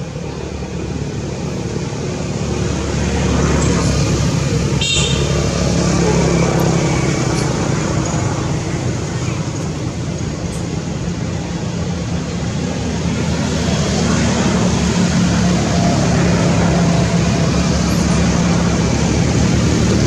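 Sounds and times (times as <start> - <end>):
motor vehicle engine hum: 0.0 - 20.0.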